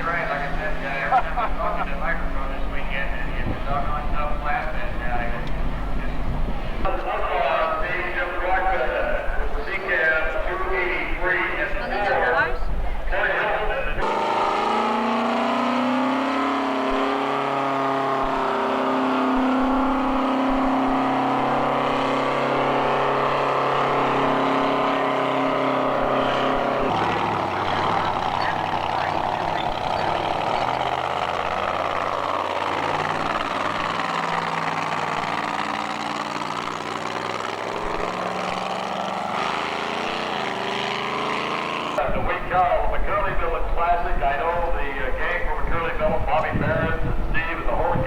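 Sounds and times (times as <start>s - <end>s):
monster truck engines running: 0.0s - 48.0s.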